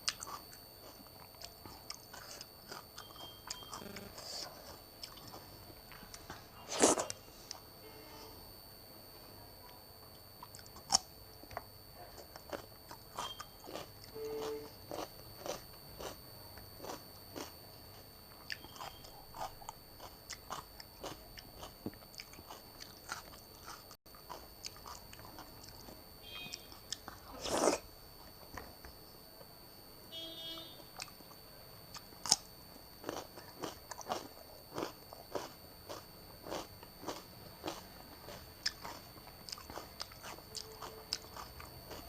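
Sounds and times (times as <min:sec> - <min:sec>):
chewing with wet clicks: 0:00.0 - 0:06.4, 0:09.6 - 0:29.0, 0:31.0 - 0:42.0.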